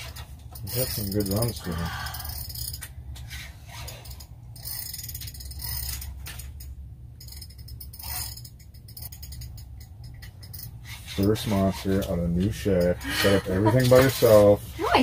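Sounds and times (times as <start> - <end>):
fishing reel clicking and whirring: 0.0 - 13.4
low steady hum: 0.0 - 15.0.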